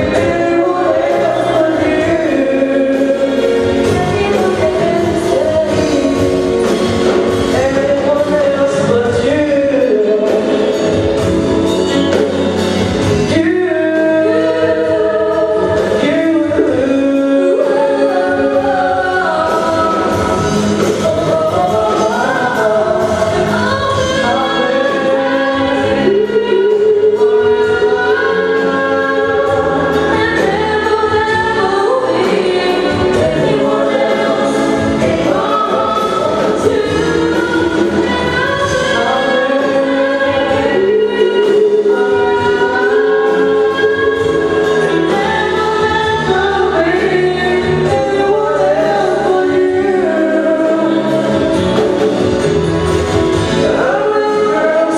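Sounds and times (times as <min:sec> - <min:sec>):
live band music: 0:00.0 - 0:54.9
voices singing together: 0:00.0 - 0:54.9.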